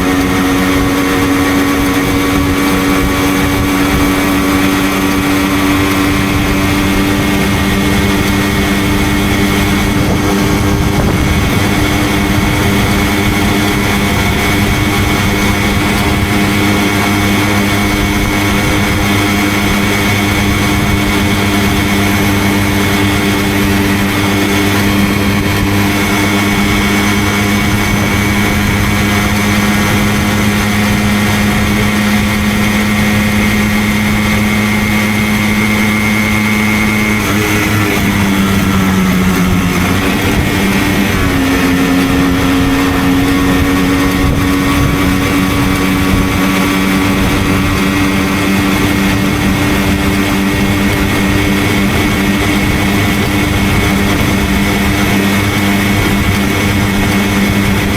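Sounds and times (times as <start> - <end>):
two-stroke moped engine running: 0.0 - 57.9.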